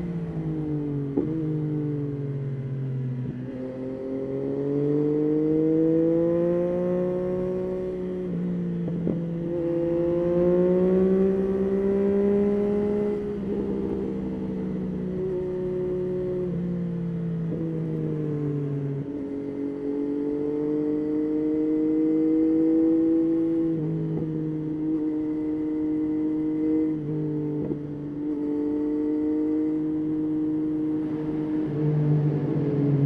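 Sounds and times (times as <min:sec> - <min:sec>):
motorcycle engine revving: 0:03.5 - 0:33.0.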